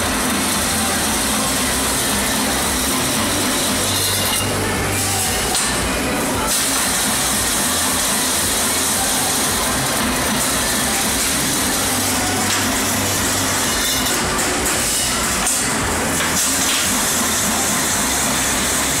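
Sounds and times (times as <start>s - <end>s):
machine hiss with low hum: 0.0s - 19.0s.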